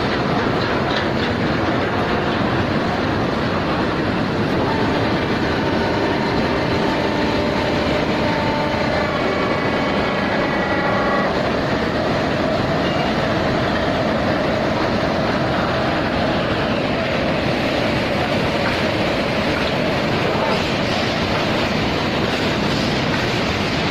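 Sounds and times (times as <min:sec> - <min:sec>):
lathe rumble and clatter: 0:00.0 - 0:23.9.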